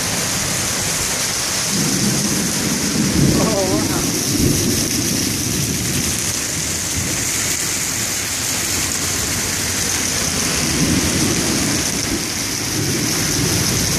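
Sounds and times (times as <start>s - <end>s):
heavy rain hissing: 0.0s - 13.9s.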